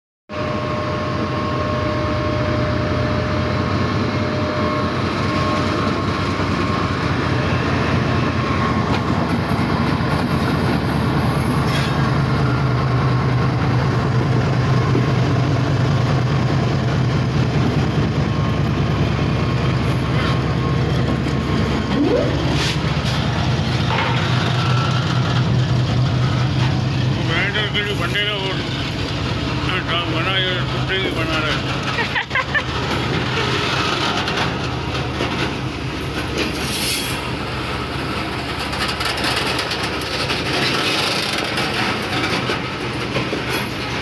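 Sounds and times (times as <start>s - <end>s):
diesel locomotive engine drone: 0.3s - 44.0s.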